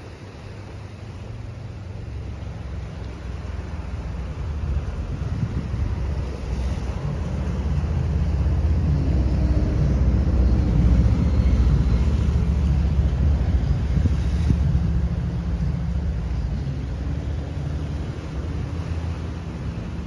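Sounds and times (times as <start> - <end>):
small waves washing against rocks: 0.0 - 20.0
wind buffeting microphone: 0.8 - 20.0.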